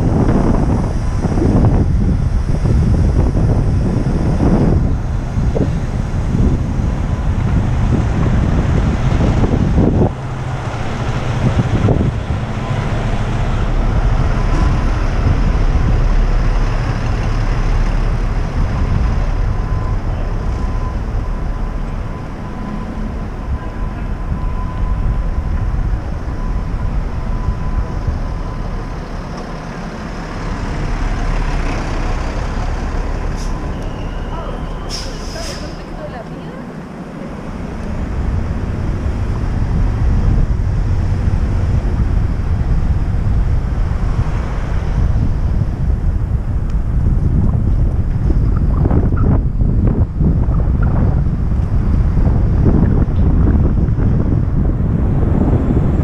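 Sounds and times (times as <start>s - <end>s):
fire trucks idling: 0.0s - 56.0s
street traffic: 0.0s - 56.0s
wind buffeting microphone: 0.0s - 56.0s.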